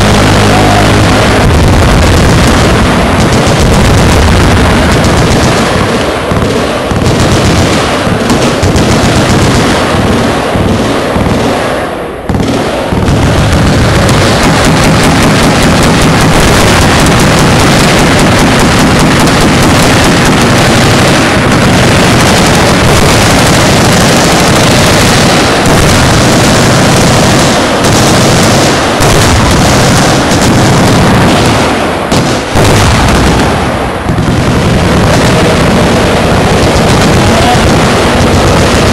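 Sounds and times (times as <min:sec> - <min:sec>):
machine guns firing: 0:00.0 - 0:38.9.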